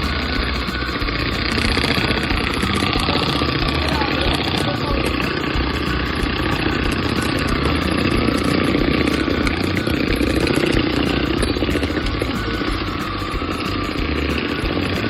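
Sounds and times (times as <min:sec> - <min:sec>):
electric hand mixer whipping: 0:00.0 - 0:15.0.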